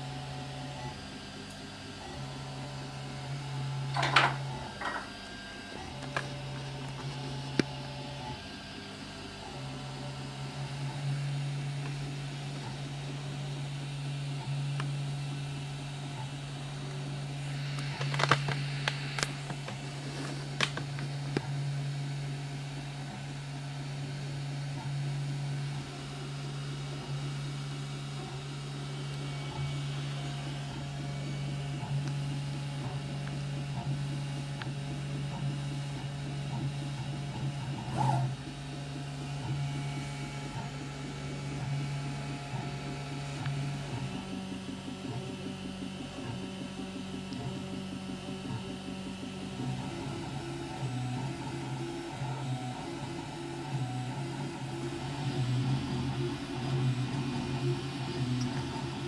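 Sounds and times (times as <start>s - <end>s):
fans humming: 0.0s - 59.0s.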